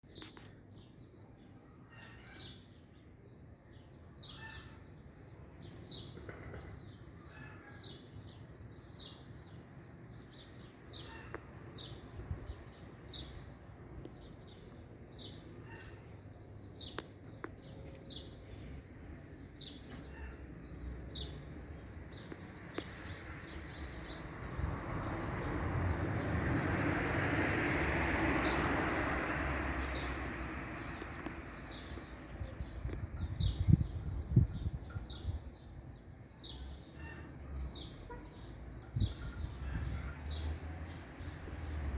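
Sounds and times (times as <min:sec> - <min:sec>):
outdoor background noise: 0:00.0 - 0:41.9.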